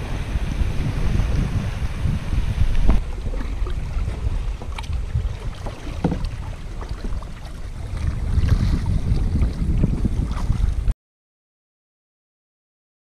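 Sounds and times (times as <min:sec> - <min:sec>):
paddle splashes and drips: 0:00.0 - 0:10.9
wind noise on microphone: 0:00.0 - 0:10.9.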